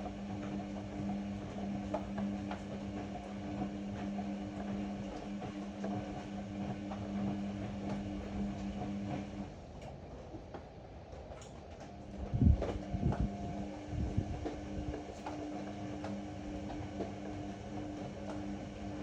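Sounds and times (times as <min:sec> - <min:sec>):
washing machine motor humming: 0:00.0 - 0:10.0, 0:11.1 - 0:19.0.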